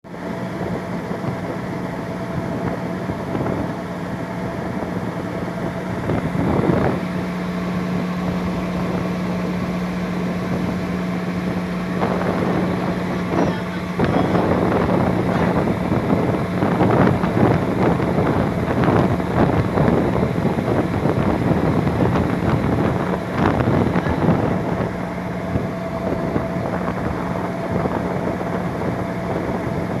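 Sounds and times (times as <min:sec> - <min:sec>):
boat engine humming: 0:00.0 - 0:30.0
rushing water: 0:00.1 - 0:30.0
wind buffeting microphone: 0:00.1 - 0:30.0.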